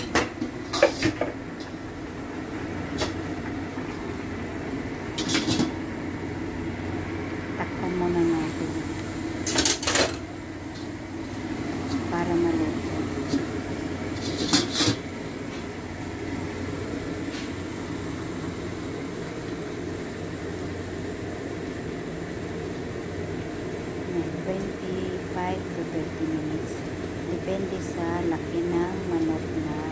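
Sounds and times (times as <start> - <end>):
gas burner rushing: 0.0 - 29.9
low stovetop rumble: 0.0 - 29.9.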